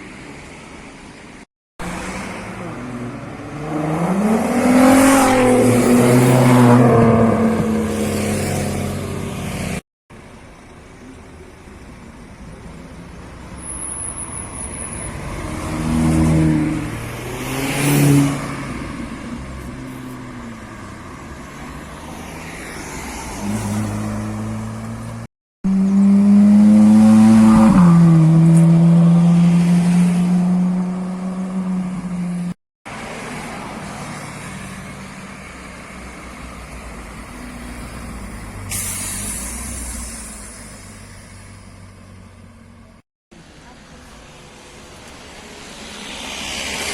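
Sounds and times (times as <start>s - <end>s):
car engines revving: 1.8s - 9.8s, 11.4s - 46.9s.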